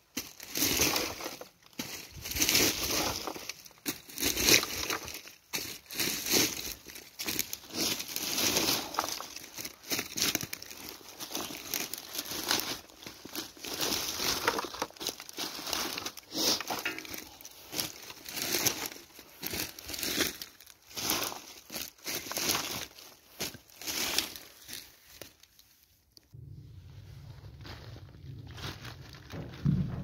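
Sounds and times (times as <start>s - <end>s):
footsteps crunching dry leaves: 0.0s - 25.8s, 27.3s - 30.0s.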